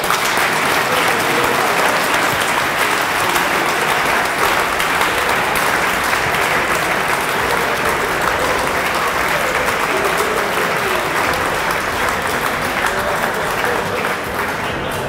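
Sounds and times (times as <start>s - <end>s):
audience applauding and cheering: 0.0s - 15.0s.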